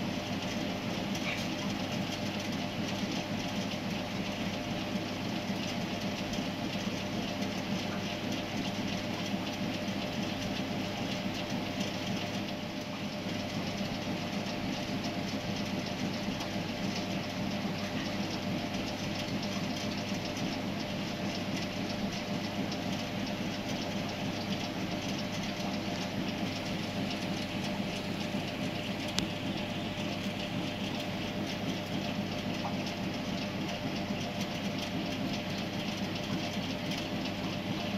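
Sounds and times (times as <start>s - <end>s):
mechanical rumble with low hum: 0.0s - 37.9s.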